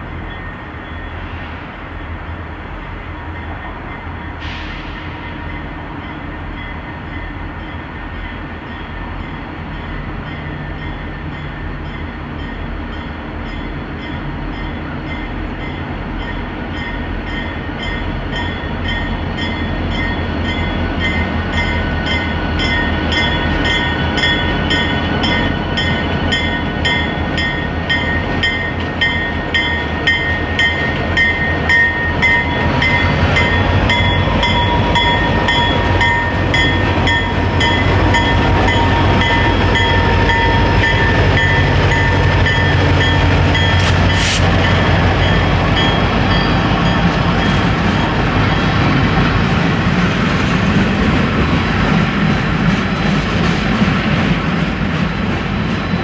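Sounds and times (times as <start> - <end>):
diesel locomotive engines rumbling: 0.0 - 56.0.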